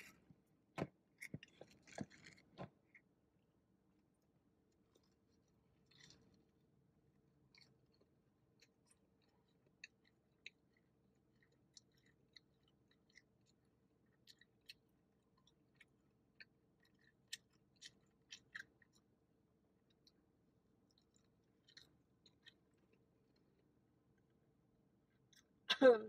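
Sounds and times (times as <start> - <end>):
chewing soft pretzel: 1.1 - 3.1, 4.0 - 25.7.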